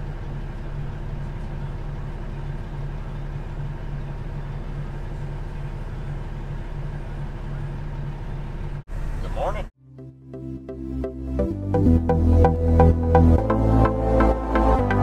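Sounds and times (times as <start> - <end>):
diesel engine idling: 0.0 - 9.7, 11.1 - 15.0.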